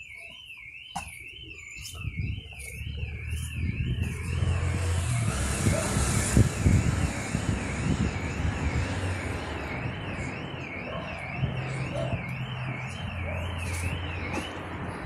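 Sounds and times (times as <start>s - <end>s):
low hum of street noise: 0.0s - 15.0s
warbling electronic alarm: 0.0s - 15.0s.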